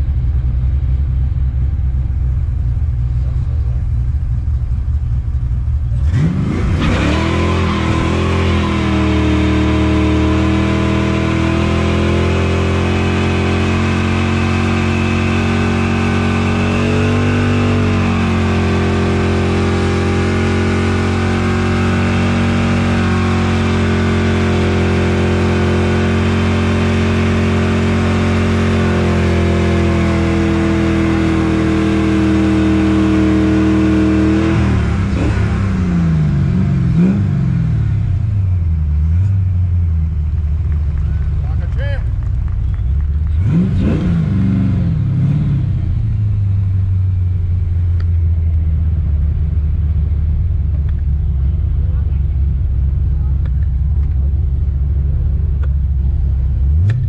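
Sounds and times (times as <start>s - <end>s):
car engine revving high: 5.9s - 57.0s.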